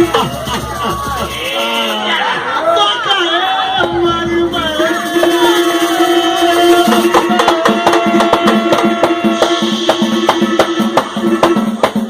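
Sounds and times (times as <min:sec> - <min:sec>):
samba percussion playing: 0:00.0 - 0:02.7, 0:03.7 - 0:12.0.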